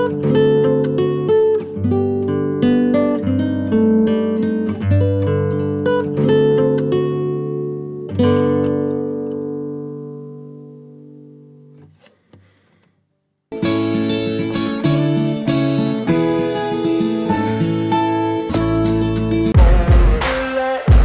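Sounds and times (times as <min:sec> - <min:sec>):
acoustic guitar picking and strumming: 0:00.0 - 0:21.0.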